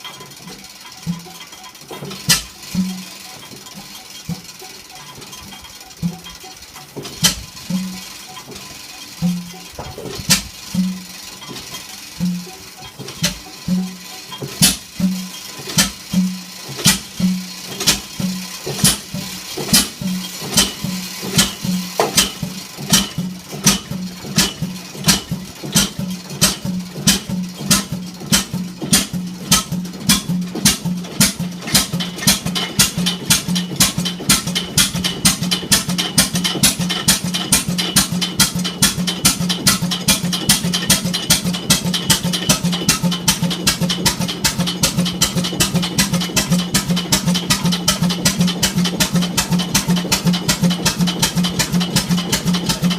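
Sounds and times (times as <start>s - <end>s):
slow diesel engine knocking: 0.0s - 52.9s.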